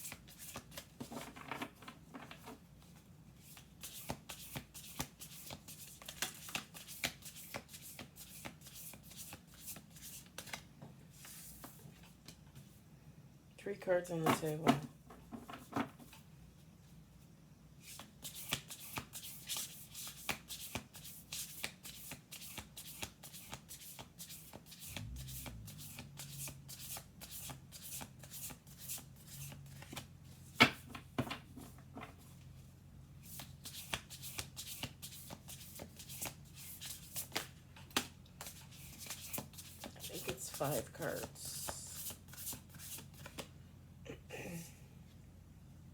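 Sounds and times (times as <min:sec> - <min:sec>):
cards being shuffled by hand: 0:00.0 - 0:12.8, 0:17.8 - 0:32.6, 0:33.2 - 0:43.5.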